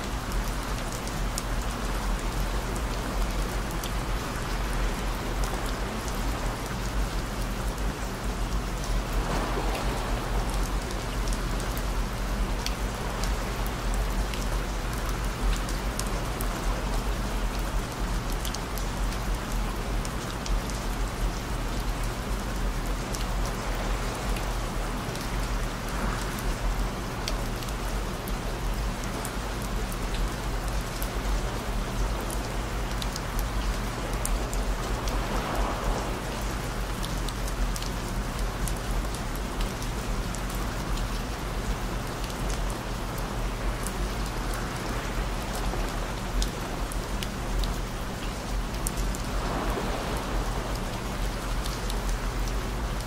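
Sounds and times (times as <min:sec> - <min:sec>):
steady rain falling: 0:00.0 - 0:53.0
raindrops ticking: 0:10.5 - 0:53.0.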